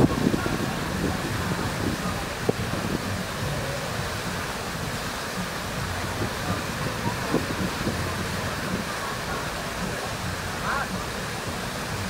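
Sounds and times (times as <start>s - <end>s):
water rushing over a wave: 0.0s - 12.0s.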